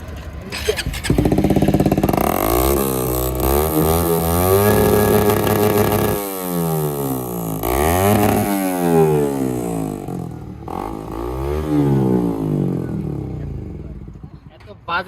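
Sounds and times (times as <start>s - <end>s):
motorcycle engine revving: 0.4s - 14.6s.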